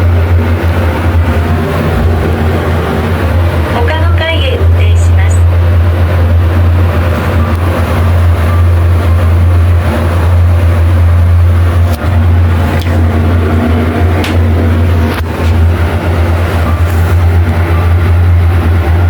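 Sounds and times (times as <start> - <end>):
elevator ventilation fan hum: 0.0 - 19.0.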